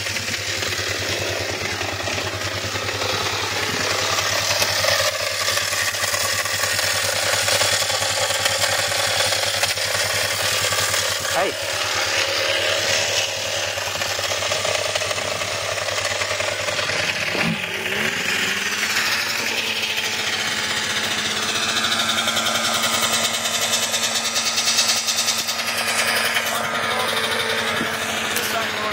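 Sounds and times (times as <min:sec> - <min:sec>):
quad bike engines idling: 0:00.0 - 0:28.9.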